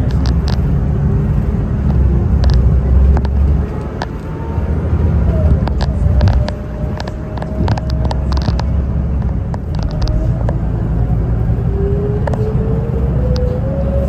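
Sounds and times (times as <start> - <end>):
bus engine rumble: 0.0 - 14.0
bus interior rattles and clicks: 0.0 - 14.0
drivetrain whine: 0.0 - 14.0.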